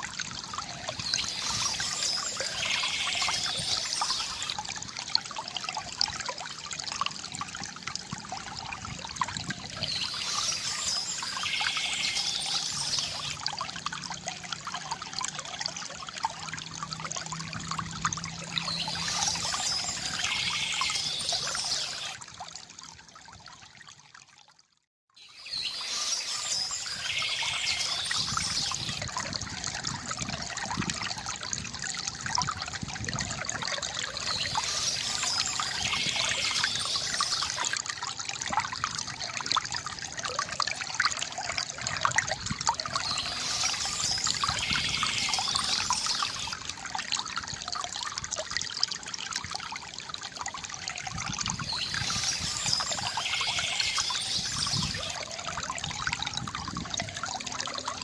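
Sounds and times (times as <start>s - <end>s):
fountain water trickling: 0.0s - 58.0s.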